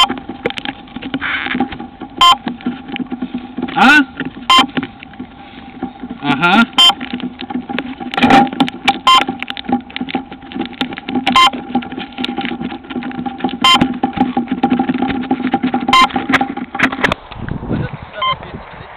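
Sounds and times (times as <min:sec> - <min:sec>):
handling knocks and rustles: 0:00.0 - 0:17.4.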